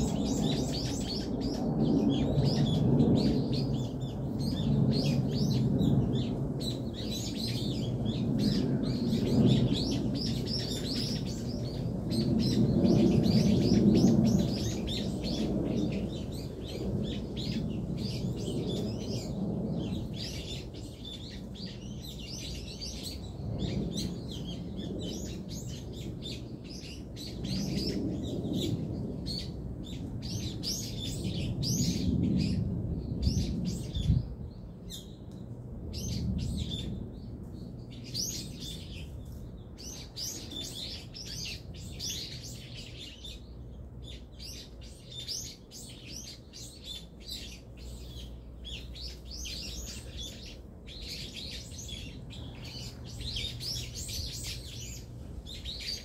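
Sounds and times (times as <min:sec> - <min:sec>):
small birds chirping: 0:00.0 - 0:56.0
steady low rumble: 0:00.0 - 0:56.0.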